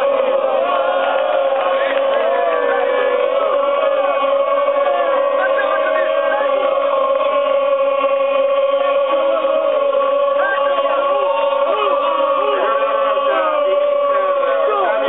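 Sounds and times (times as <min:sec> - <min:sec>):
crowd chanting in unison: 0:00.0 - 0:15.0.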